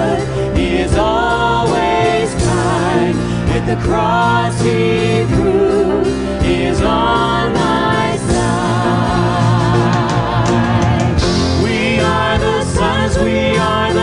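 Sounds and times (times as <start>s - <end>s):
band playing: 0.0s - 14.0s
women singing worship song: 0.0s - 14.0s.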